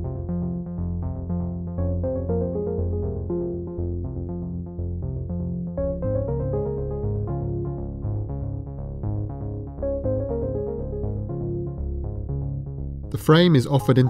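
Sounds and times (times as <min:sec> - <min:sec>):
synthesizer and keyboard music: 0:00.0 - 0:14.0.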